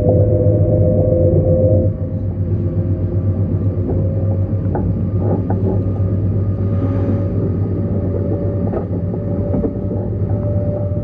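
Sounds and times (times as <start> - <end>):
faint whine: 0.0 - 11.0
train rumbling: 0.0 - 11.0.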